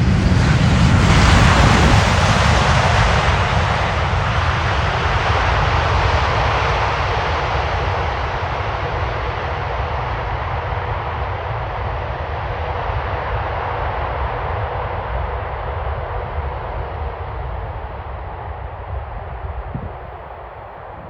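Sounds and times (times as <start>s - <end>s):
jet airliner engine noise: 0.0s - 21.0s.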